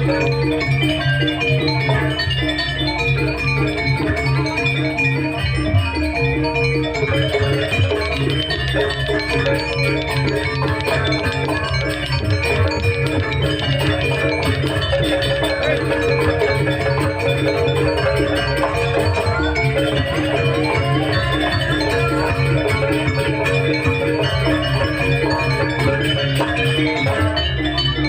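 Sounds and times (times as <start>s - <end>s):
metal mallet instruments: 0.0s - 28.0s.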